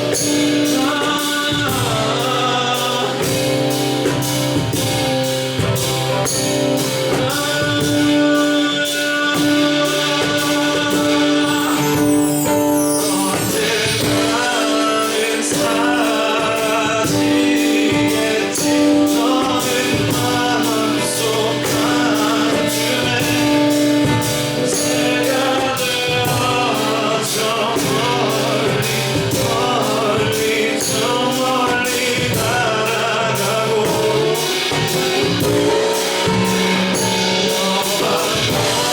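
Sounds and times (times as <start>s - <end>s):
acoustic guitar: 0.0s - 38.9s
percussion keeping a beat: 0.0s - 38.9s.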